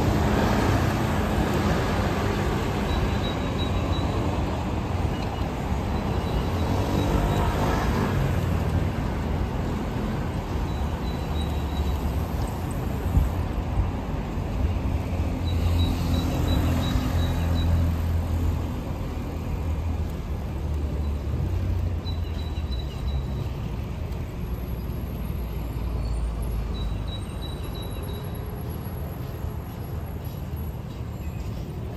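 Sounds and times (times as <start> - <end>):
cars and vans passing: 0.0 - 31.9.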